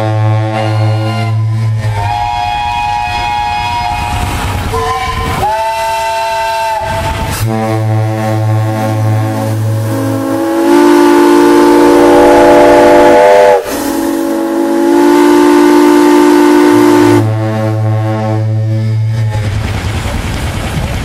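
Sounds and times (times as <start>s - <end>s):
chord of higher steam whistles: 0.0s - 19.4s
deep steam whistle tone: 0.0s - 19.5s.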